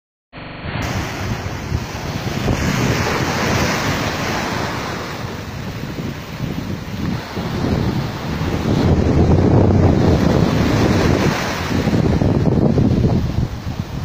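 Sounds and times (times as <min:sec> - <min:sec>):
waves breaking on shore: 0:00.4 - 0:14.0
wind buffeting microphone: 0:00.8 - 0:14.0.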